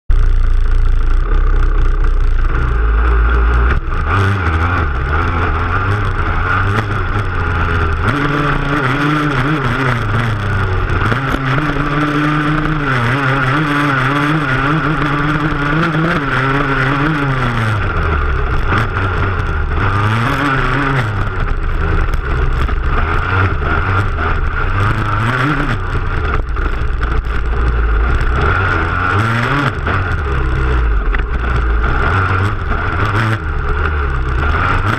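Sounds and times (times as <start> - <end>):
dirt bike engine revving: 0.1 - 34.9
heavy low rumble: 0.1 - 34.9.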